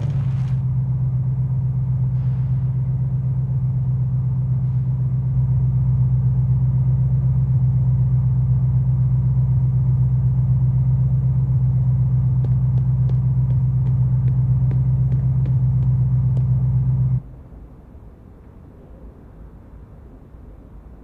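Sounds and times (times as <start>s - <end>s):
car engine rumbling: 0.0s - 17.4s.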